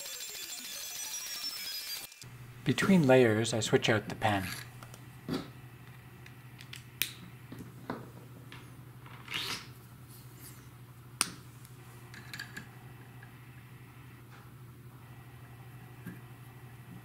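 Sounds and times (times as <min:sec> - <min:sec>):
steady low hum: 0:02.2 - 0:17.0.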